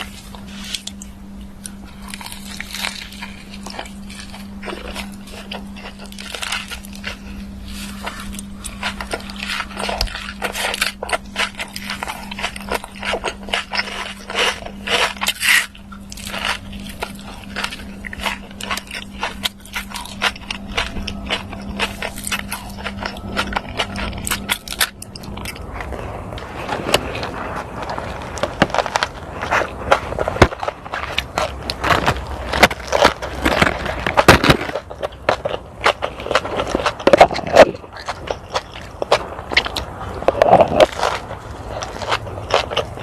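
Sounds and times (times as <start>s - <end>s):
chewing crunchy food: 0.0s - 43.0s
low steady hum: 0.0s - 43.0s.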